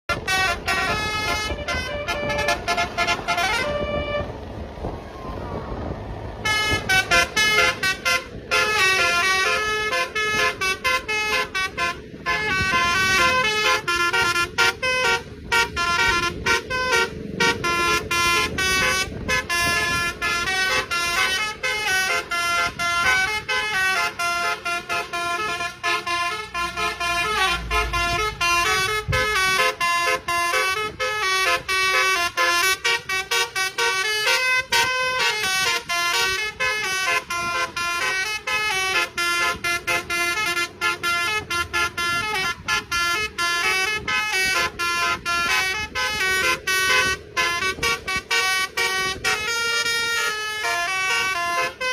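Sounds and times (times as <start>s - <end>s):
melodic vehicle horn playing tune: 0.1s - 4.9s, 6.3s - 51.9s.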